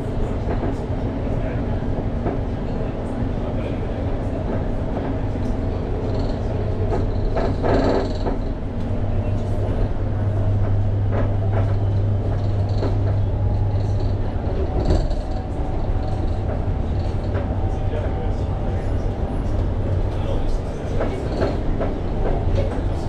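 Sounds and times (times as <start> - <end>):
train wheels humming: 0.0 - 23.0.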